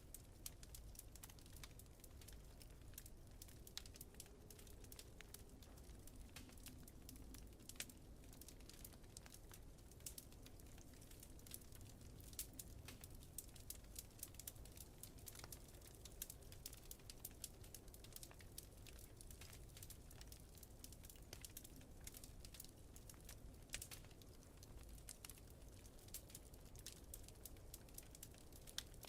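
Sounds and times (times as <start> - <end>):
fire low rumble: 0.0 - 29.0
fire crackling pops: 0.1 - 29.0.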